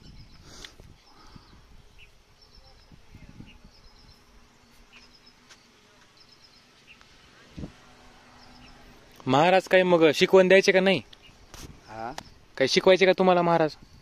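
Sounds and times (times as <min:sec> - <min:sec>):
insect buzzing hum: 0:00.0 - 0:14.0.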